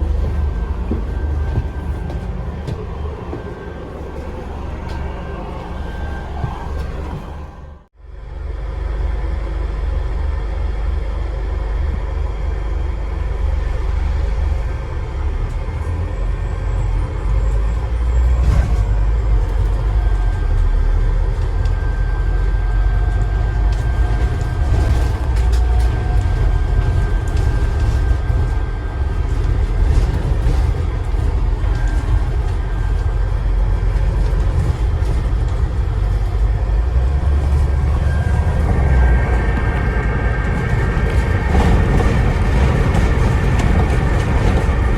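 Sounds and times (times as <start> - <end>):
road noise: 0.0 - 8.0, 11.8 - 44.9
bus engine rumble: 0.0 - 44.9.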